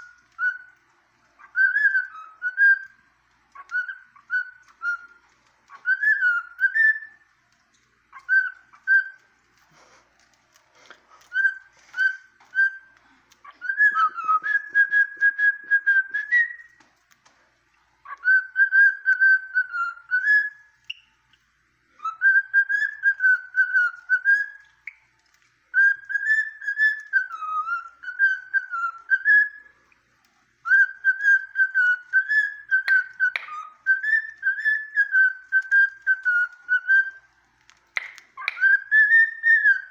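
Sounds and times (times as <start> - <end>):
cockatiel whistling: 0.0 - 0.8, 1.4 - 7.3, 8.1 - 9.9, 11.2 - 16.8, 18.0 - 21.2, 21.9 - 25.1, 25.7 - 30.0, 30.6 - 39.9.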